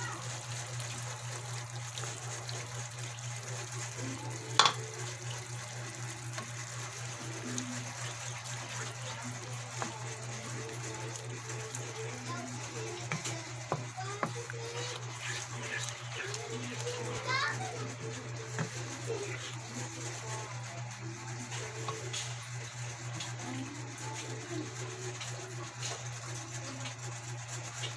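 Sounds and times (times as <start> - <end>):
liquid pouring and sloshing: 0.0 - 23.5.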